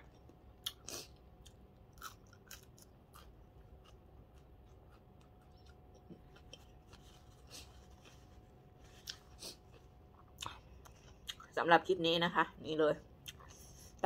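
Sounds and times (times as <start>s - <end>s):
quiet chewing: 0.0s - 11.6s, 13.2s - 14.0s
room hum: 0.0s - 14.0s.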